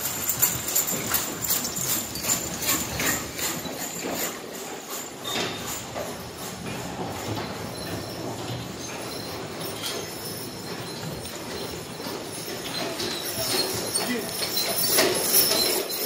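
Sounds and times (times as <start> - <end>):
harness chains jingling: 0.0 - 16.0
horse hoofbeats: 0.0 - 16.0.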